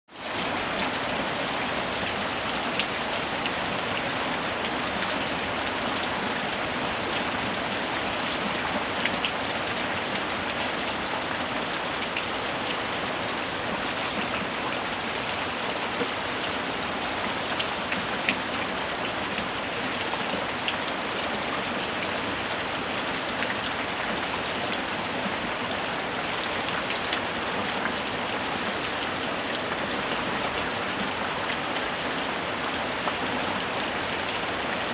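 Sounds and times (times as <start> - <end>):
heavy rain on a tin roof: 0.1 - 34.9.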